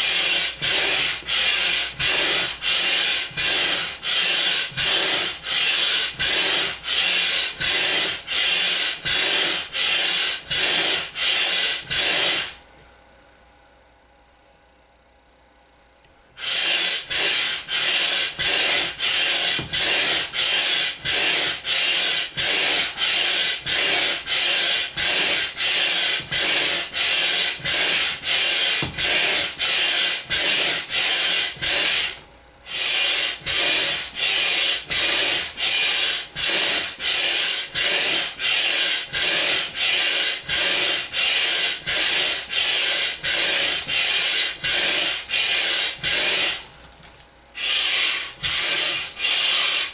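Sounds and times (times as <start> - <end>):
hand air pump strokes: 0.0 - 12.6, 16.4 - 46.7, 47.5 - 49.9.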